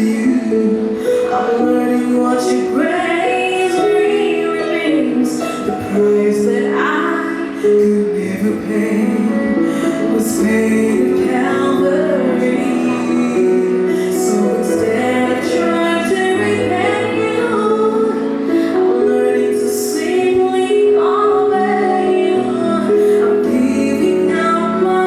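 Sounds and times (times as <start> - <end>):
vocal group singing in harmony: 0.0 - 25.0.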